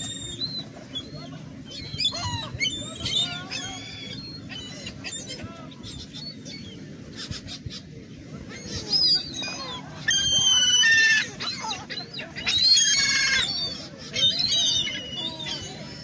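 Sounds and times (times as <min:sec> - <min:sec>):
gulls calling: 0:00.0 - 0:16.0.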